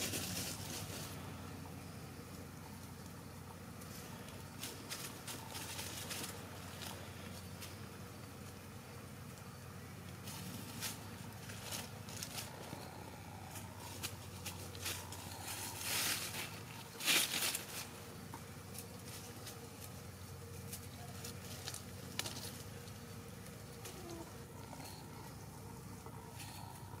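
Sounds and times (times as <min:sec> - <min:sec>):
chickens rustling in dry leaves: 0:00.0 - 0:27.0
low steady hum: 0:00.0 - 0:27.0.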